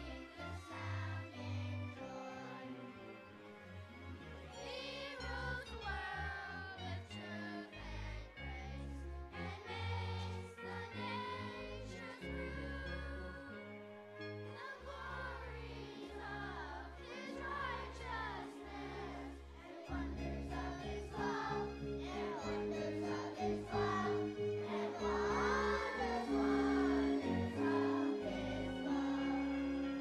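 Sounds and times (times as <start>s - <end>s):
children's choir singing: 0.0s - 3.3s, 4.5s - 30.0s
instrumental accompaniment with bass: 0.0s - 30.0s.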